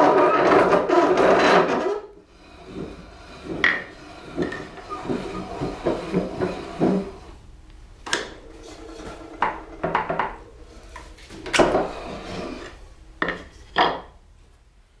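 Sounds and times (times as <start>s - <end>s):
wood scraping: 0.0s - 7.5s, 8.1s - 14.1s.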